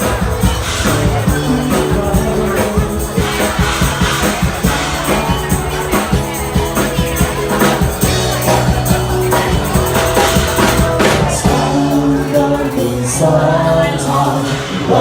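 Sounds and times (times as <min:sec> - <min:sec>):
drums steady beat: 0:00.0 - 0:15.0
live band playing pop: 0:00.0 - 0:15.0.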